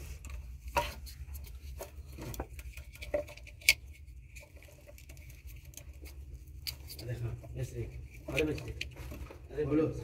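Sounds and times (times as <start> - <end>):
wires rustling: 0.0 - 10.0.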